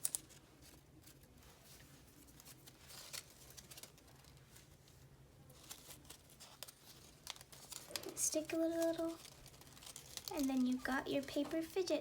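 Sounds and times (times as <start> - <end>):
paper and tape rustling: 0.0 - 12.0.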